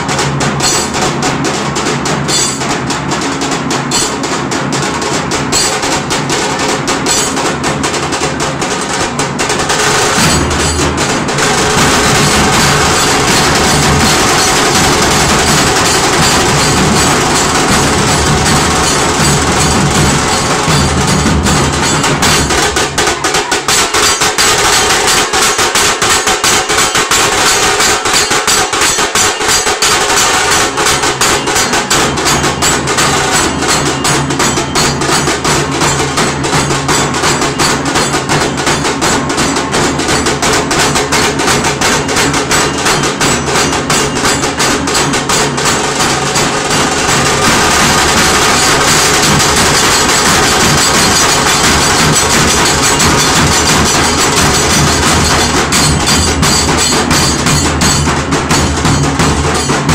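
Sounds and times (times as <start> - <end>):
deep booming drums: 0.0 - 59.9
drum ensemble playing: 0.0 - 59.9.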